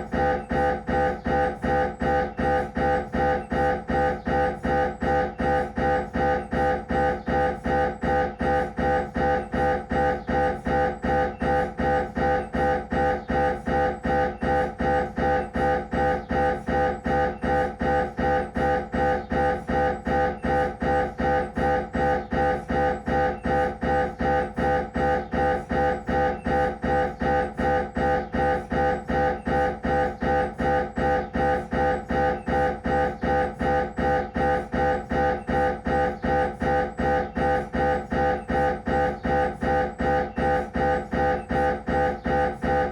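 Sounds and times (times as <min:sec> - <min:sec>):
mri scanner buzzing pulses: 0:00.0 - 0:42.9.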